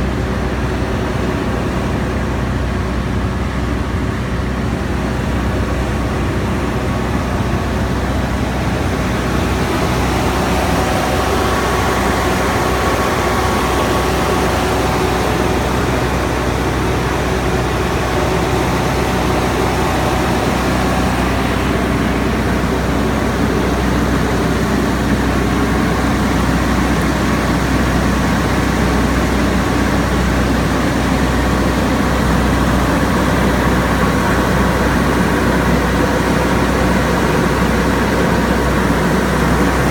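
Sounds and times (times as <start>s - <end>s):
air-conditioning unit droning: 0.0s - 39.9s.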